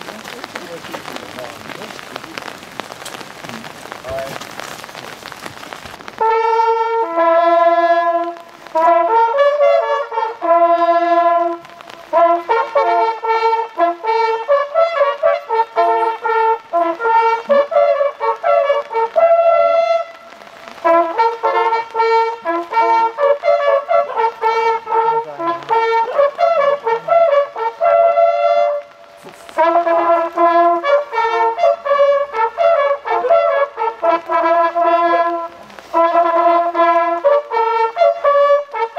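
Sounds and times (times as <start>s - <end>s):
hunting horns playing a fanfare: 6.1s - 38.9s.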